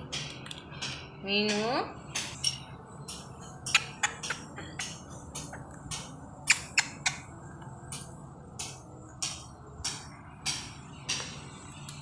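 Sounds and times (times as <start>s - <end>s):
parakeet chirping and clicking: 0.1s - 12.0s.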